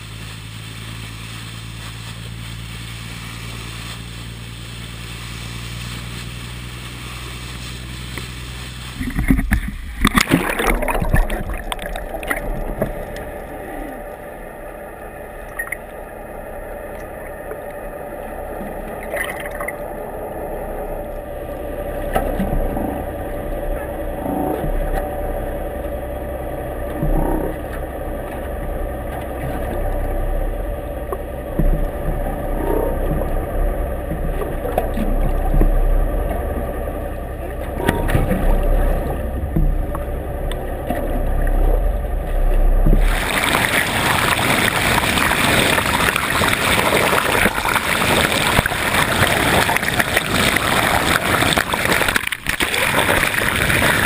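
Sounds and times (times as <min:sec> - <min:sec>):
rushing water: 0:00.0 - 0:54.0
underwater boat engine hum: 0:00.0 - 0:54.0.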